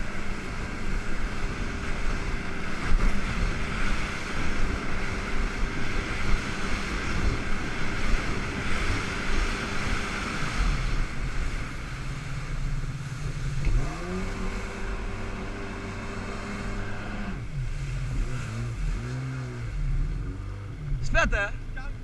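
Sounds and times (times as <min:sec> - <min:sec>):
jet ski engine: 0:00.0 - 0:22.0
water noise: 0:00.0 - 0:22.0
wind: 0:00.0 - 0:22.0.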